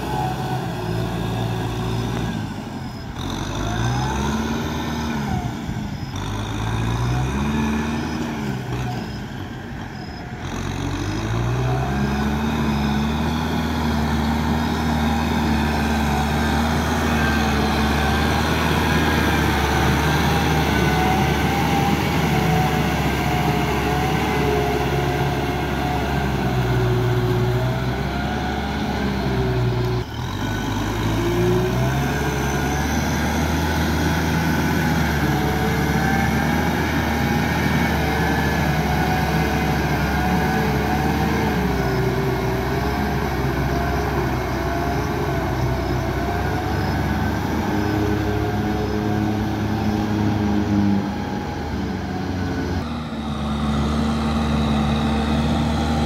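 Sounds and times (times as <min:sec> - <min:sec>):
tractor diesel engine: 0:00.0 - 0:56.0.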